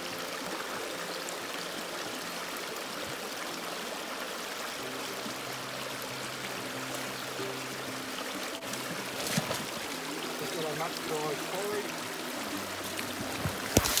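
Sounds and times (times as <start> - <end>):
stream rushing over stones: 0.0 - 14.0.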